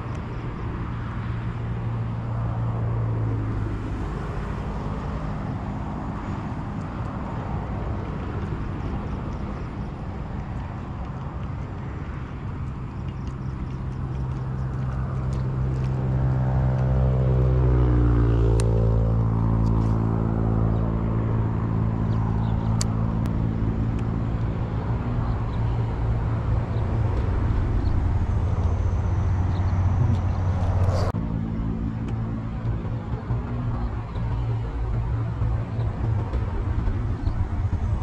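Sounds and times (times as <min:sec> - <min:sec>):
engine drone: 0:00.0 - 0:38.0
passing vehicle engine: 0:00.0 - 0:38.0.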